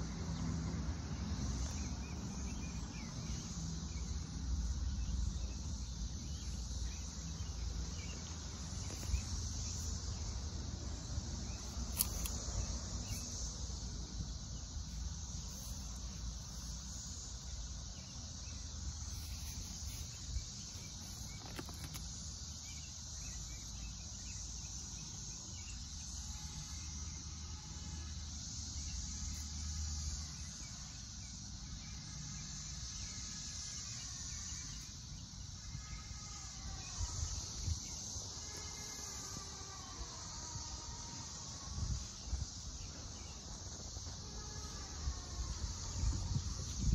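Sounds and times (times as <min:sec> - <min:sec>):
steady high hiss: 0:01.3 - 0:46.9.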